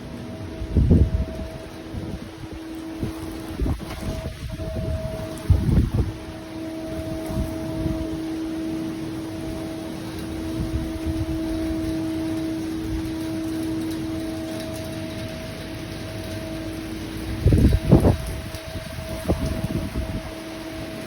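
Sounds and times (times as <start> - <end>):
low hum: 0.0 - 21.0
steady hiss: 0.0 - 21.0
wind on microphone: 0.0 - 21.0.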